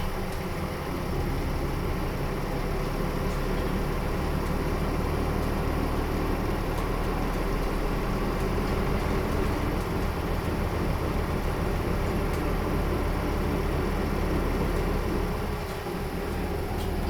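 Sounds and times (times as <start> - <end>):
bus diesel engine humming: 0.0 - 17.0.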